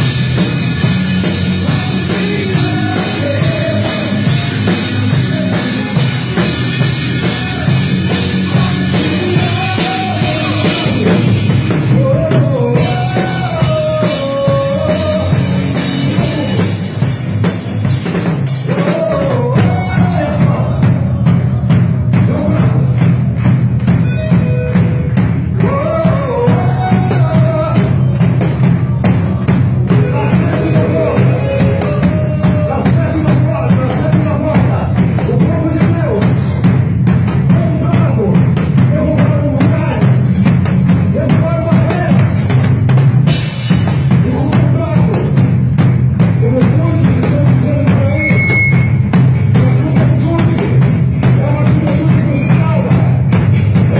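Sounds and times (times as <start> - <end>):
drum kit steady beat: 0.0 - 53.9
sustained bass: 0.0 - 53.9
worship band music: 0.0 - 53.9.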